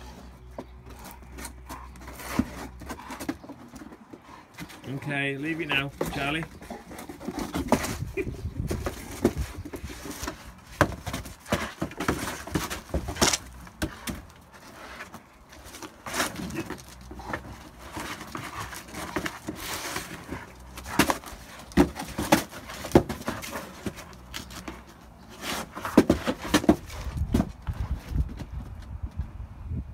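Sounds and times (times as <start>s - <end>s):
cardboard crumpling and scraping: 0.0s - 28.6s
sharp knocks and scuffs: 0.0s - 29.2s.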